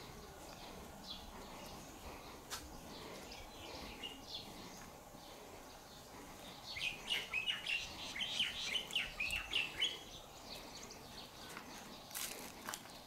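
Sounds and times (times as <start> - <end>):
bird chirping: 0.0 - 12.2.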